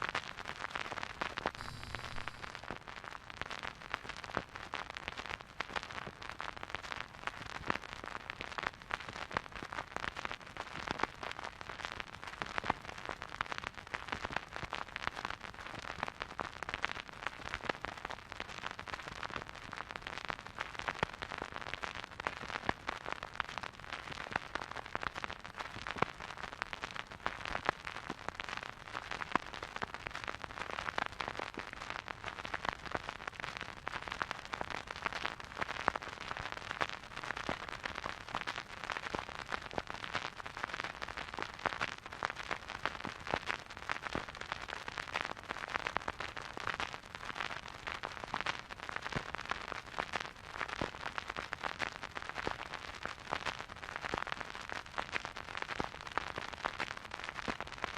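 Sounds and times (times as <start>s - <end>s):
vinyl crackles and pops: 0.0s - 57.9s.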